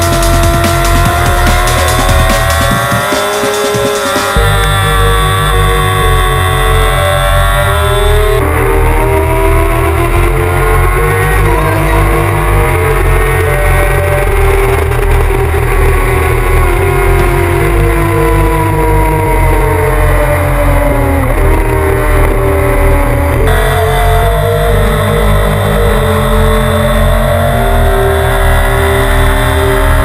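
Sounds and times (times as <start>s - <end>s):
drum and bass music: 0.0s - 30.0s
motorcycle engine revving: 0.0s - 30.0s.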